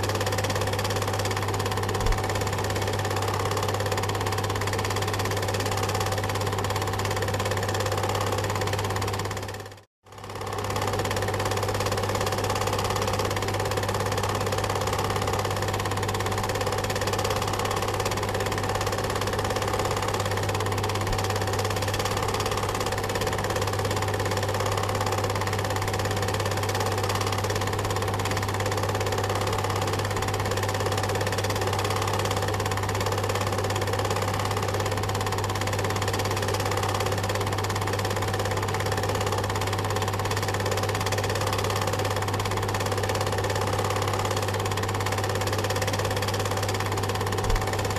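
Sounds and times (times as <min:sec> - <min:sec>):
film projector whirring: 0:00.0 - 0:47.9.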